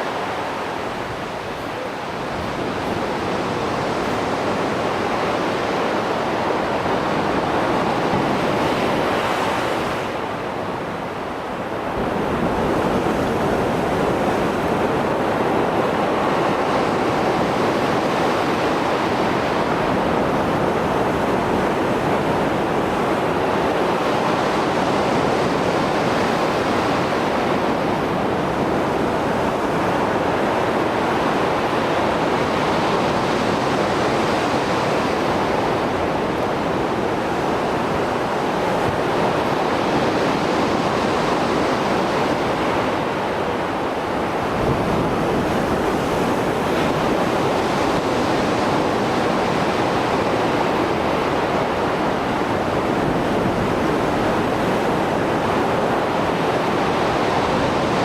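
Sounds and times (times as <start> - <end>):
waves breaking and washing ashore: 0.0 - 58.0.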